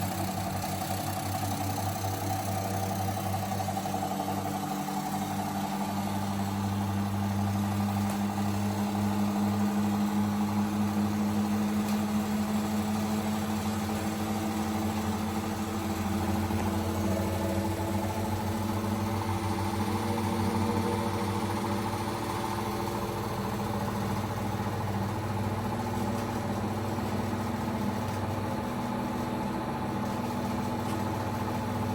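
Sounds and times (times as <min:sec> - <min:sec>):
washing machine rattling: 0:00.0 - 0:31.9
washing machine spinning: 0:00.0 - 0:31.9.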